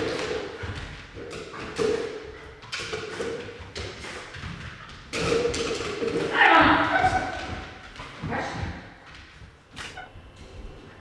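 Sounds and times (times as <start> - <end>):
dog thumping on hard floor: 0.0 - 10.0.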